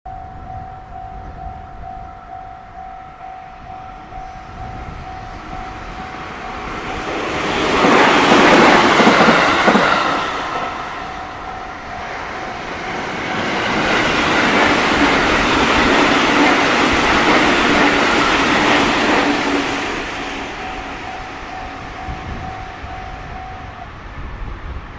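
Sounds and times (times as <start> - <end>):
crossing warning bell: 0.1 - 24.8
trains running past: 0.1 - 24.9.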